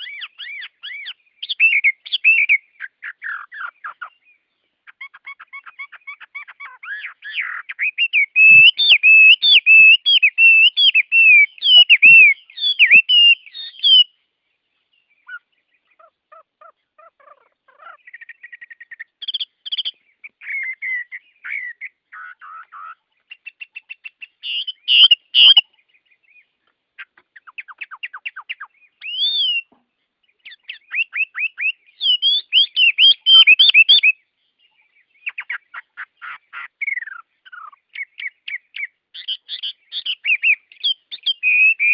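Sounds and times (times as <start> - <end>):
bird trills: 0.0 - 41.9
songbirds chirping: 0.0 - 41.9.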